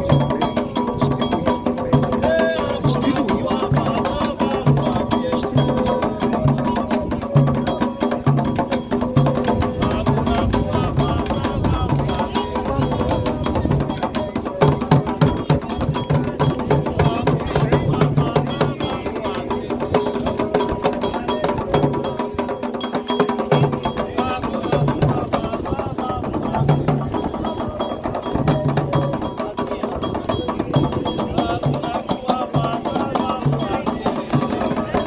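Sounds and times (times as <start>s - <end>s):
hand drums fast rhythm: 0.0s - 35.0s.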